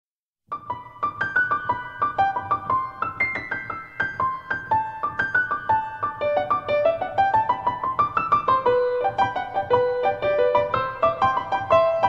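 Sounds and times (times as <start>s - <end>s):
piano music: 0.5s - 12.0s.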